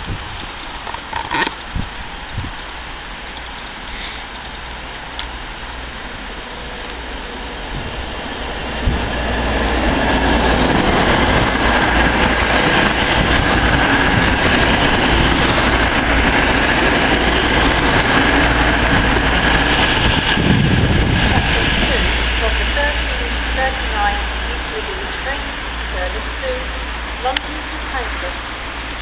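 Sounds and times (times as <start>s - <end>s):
diesel train engines passing: 0.0s - 29.0s
train wheels on rails: 0.0s - 29.0s.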